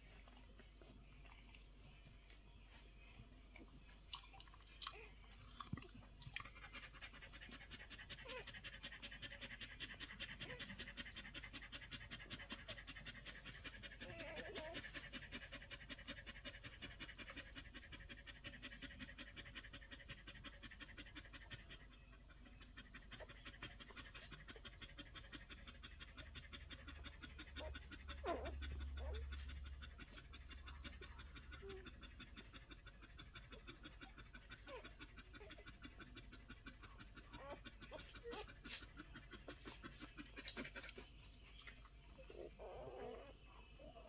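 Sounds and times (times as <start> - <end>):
dog panting: 0.0 - 44.0.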